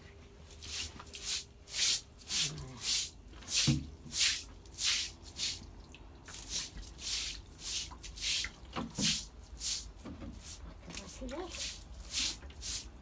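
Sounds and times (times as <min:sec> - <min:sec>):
broom scrubbing wet concrete: 0:00.5 - 0:05.7, 0:06.3 - 0:13.0.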